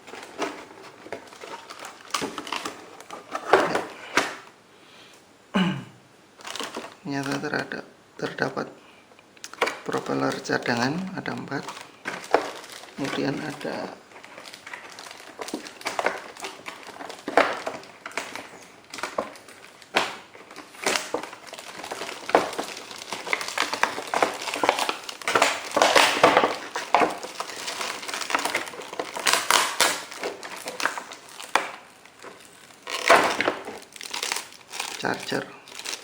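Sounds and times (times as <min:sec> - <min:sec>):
packaging crinkling and rustling: 0:00.0 - 0:04.6, 0:06.4 - 0:36.0.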